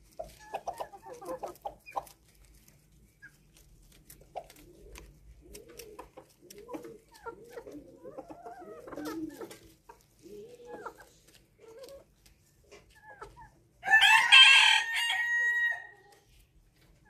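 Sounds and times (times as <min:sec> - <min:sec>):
rabbits chewing leaves: 0:00.0 - 0:17.0.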